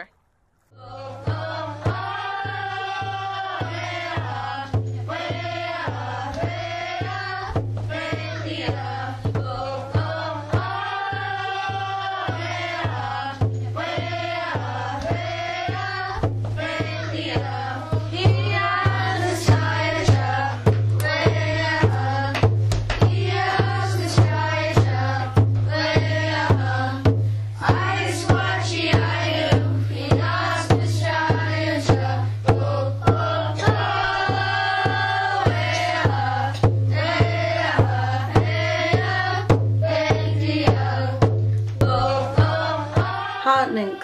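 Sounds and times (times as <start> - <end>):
voices singing a chant: 0.7 - 44.0
steady drumbeat: 1.1 - 44.0.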